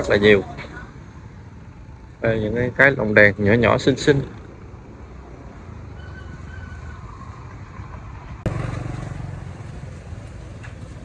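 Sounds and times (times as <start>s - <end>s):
low rumble of motor traffic: 0.0s - 11.0s.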